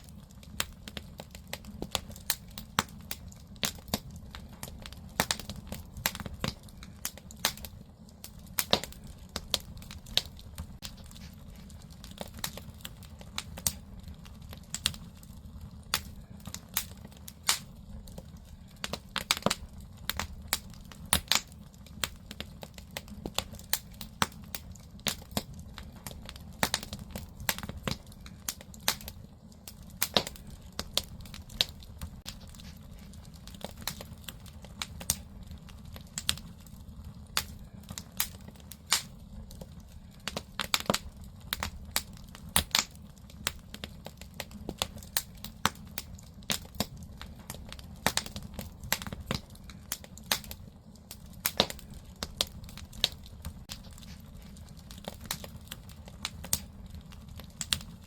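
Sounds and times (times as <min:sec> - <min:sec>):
firewood crackling and popping: 0:00.0 - 0:58.0
low fire rumble: 0:00.0 - 0:58.0.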